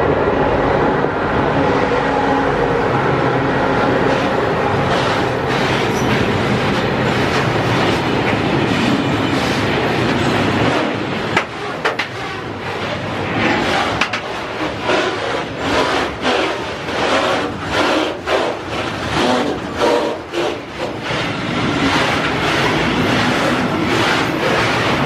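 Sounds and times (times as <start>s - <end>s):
train wheels rattling on rails: 0.0s - 25.0s.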